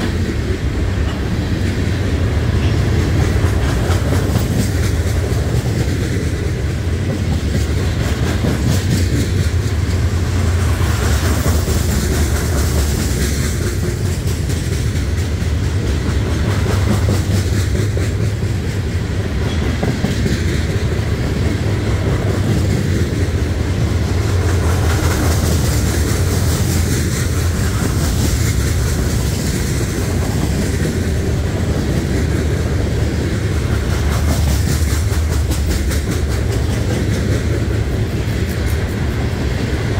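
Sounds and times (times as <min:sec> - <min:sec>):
steel wheels rumbling on rails: 0:00.0 - 0:39.9
wheels clacking over rail joints: 0:00.0 - 0:39.9.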